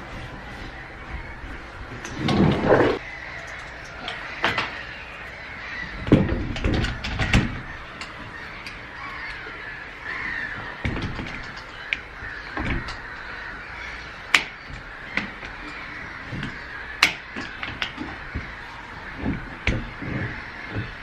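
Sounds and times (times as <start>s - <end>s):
gulls calling: 0.0s - 21.0s.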